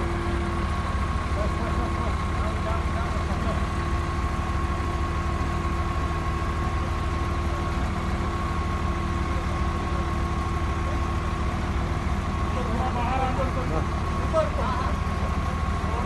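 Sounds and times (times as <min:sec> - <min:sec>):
heavy machinery engine idling: 0:00.0 - 0:16.0.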